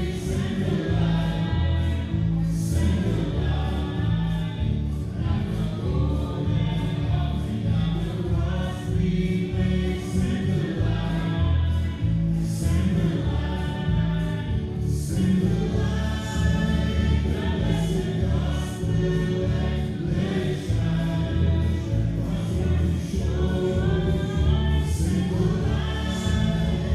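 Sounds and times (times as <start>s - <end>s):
gospel choir singing: 0.0s - 26.9s
strong bass line: 0.0s - 26.9s.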